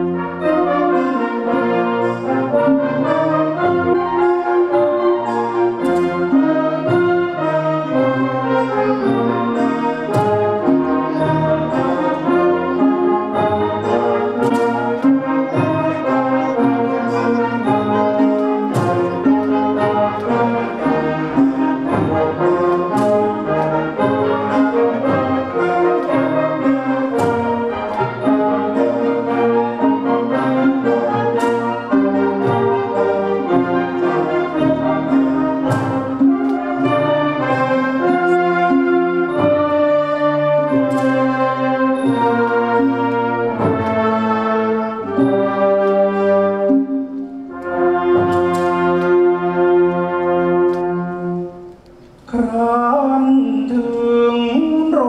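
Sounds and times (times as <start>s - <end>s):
orchestra with brass: 0.0s - 55.0s.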